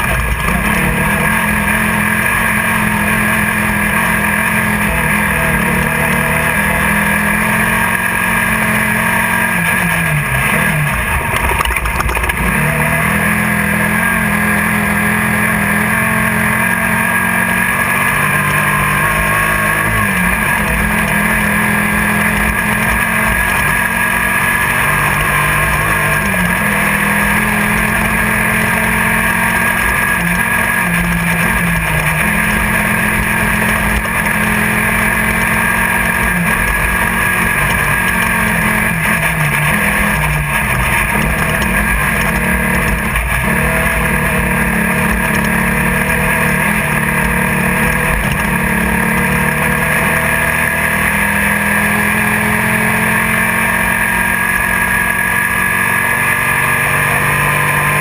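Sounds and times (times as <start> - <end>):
car rattle and rushing noise: 0.0 - 58.0
engine running at high revs: 0.0 - 58.0.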